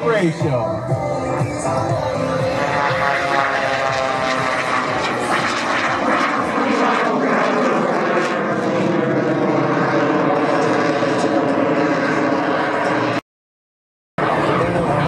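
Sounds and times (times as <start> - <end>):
propeller engine drone: 0.0 - 13.2, 14.2 - 15.0.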